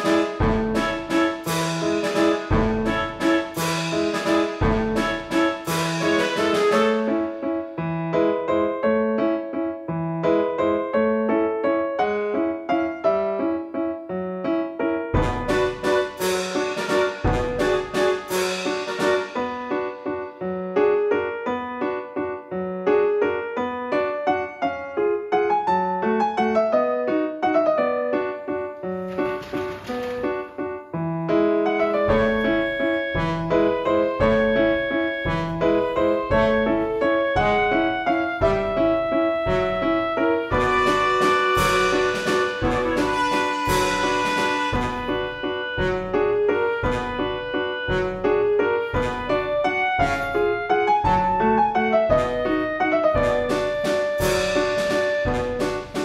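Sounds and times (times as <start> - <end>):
piano playing even notes: 0.0 - 56.0.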